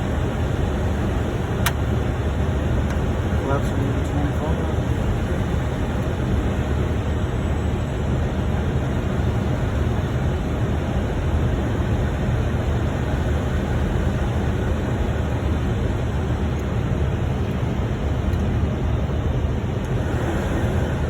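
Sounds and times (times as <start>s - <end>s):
rushing drone of air and engines: 0.0s - 21.0s.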